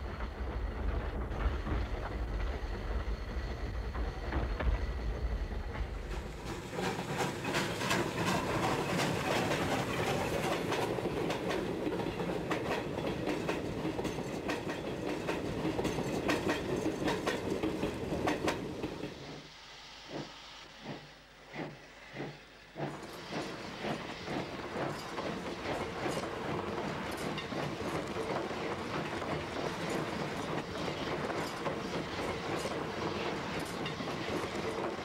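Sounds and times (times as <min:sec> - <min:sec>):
tram wheels clicking over rail joints: 0:00.0 - 0:19.2, 0:20.1 - 0:35.0.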